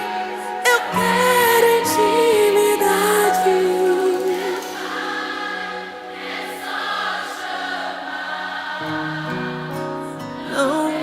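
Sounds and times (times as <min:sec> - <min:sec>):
backing choir singing: 0:00.0 - 0:11.0.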